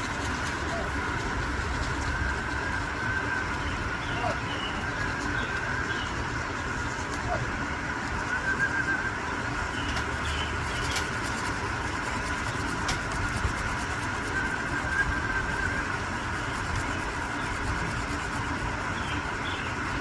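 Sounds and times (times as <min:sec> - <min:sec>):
continuous noise: 0:00.0 - 0:20.0
mechanical hum: 0:00.0 - 0:20.0.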